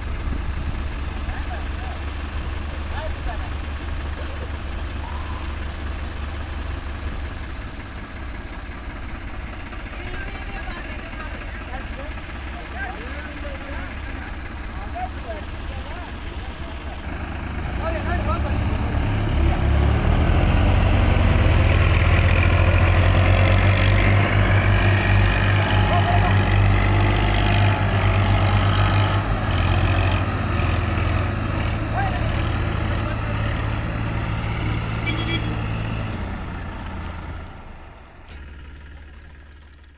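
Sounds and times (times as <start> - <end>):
diesel tractor engines under load: 0.0 - 39.9.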